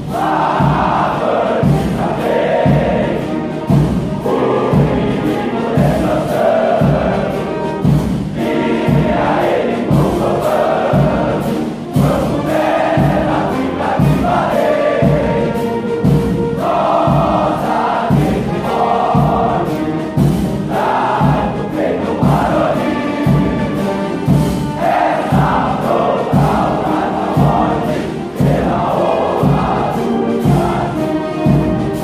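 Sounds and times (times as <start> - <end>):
male choir singing in unison: 0.0 - 32.0
steady drum beat: 0.0 - 32.0.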